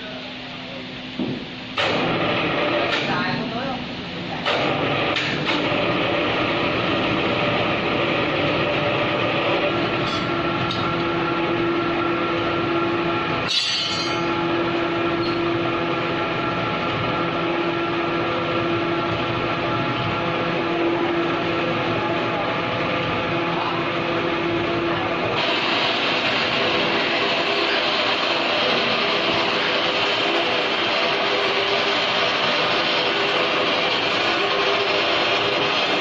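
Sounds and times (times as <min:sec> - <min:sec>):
large engine droning: 0:01.8 - 0:36.0.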